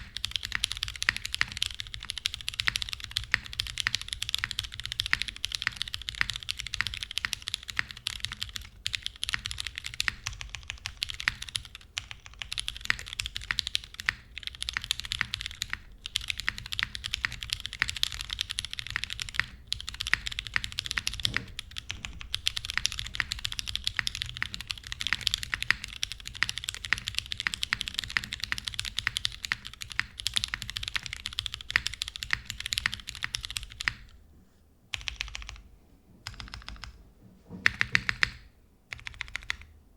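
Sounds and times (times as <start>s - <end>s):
mechanical keyboard typing: 0.0s - 34.2s, 34.9s - 35.6s, 36.2s - 37.0s, 37.6s - 39.7s.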